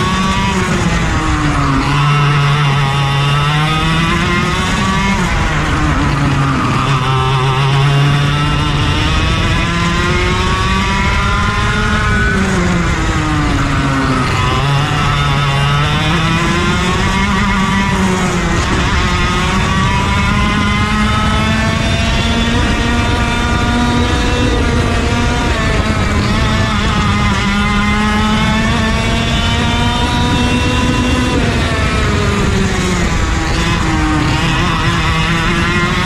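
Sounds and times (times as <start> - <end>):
go-kart engine revving: 0.0 - 36.0.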